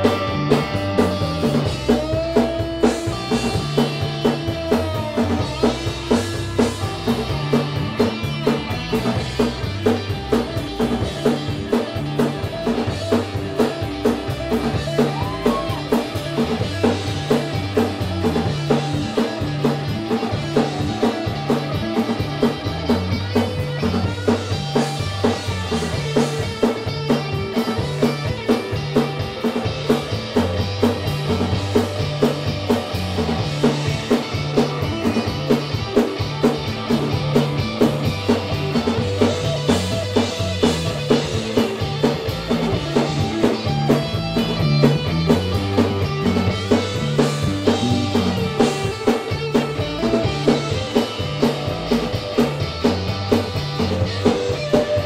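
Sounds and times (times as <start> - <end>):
bass guitar: 0.0 - 55.0
drum kit steady beat: 0.0 - 55.0
electric guitar: 0.0 - 55.0.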